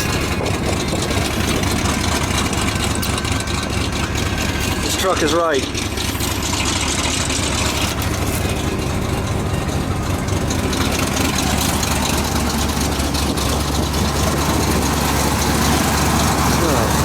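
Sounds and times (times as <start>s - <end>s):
pickup engine idling: 0.0s - 17.0s.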